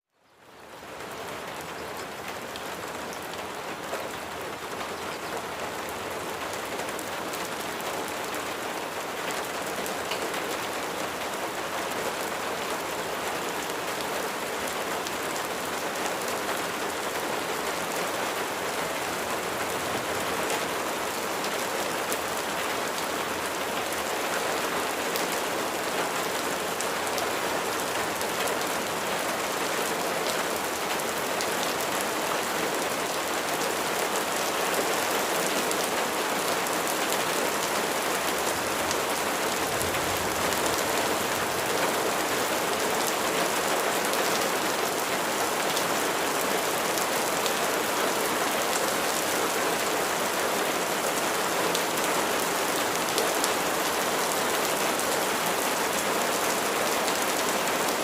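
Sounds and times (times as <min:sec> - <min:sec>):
rain on hard surfaces: 0:00.1 - 0:58.0.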